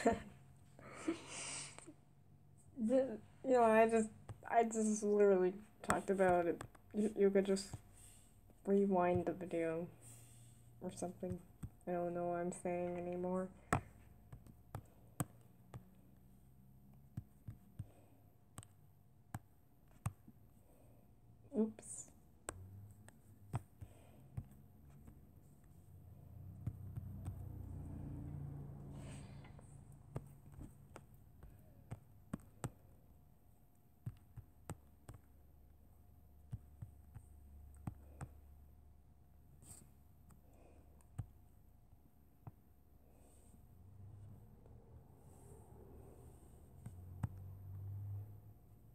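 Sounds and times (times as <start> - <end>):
faint low hum: 0.0 - 48.9.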